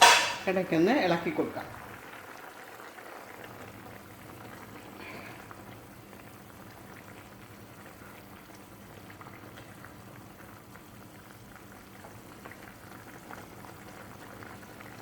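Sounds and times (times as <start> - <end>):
gravy bubbling in a pot: 0.1 - 15.0.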